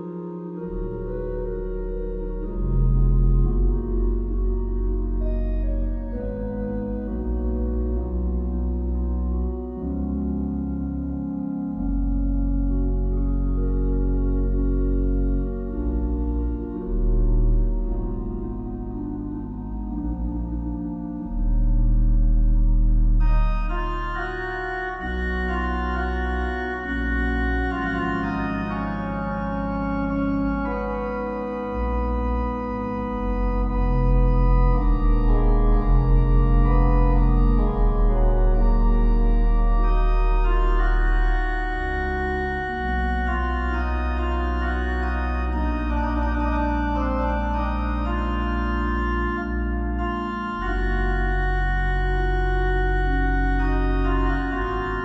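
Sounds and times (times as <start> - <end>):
slow organ music: 0.0 - 55.0.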